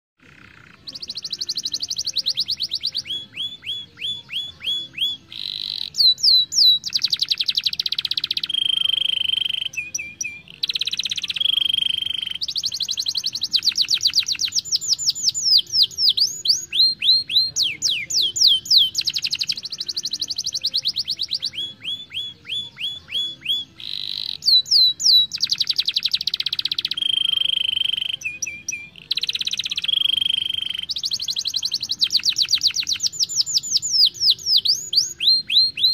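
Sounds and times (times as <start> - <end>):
canary singing trills: 0.2 - 35.9.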